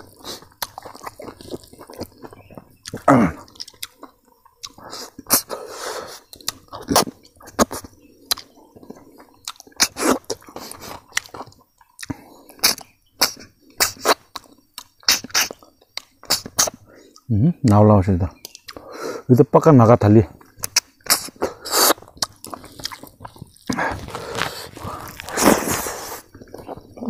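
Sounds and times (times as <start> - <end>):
crispy food crunching: 0.0 - 5.5, 6.2 - 17.2, 20.4 - 27.0
wet chewing and smacking: 0.0 - 17.3, 18.4 - 18.9, 20.4 - 27.0.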